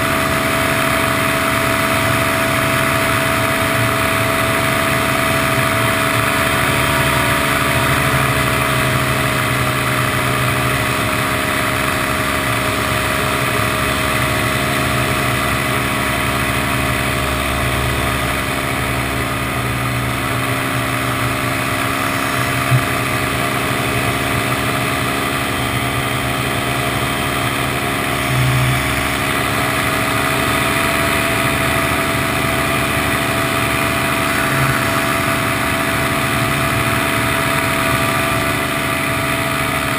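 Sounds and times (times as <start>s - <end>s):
paramotor engine drone: 0.0s - 39.9s.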